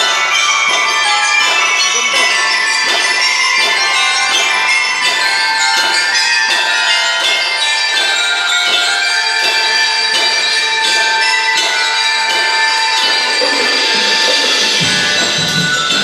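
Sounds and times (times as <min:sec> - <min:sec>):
mallet keyboard melody: 0:00.0 - 0:16.0.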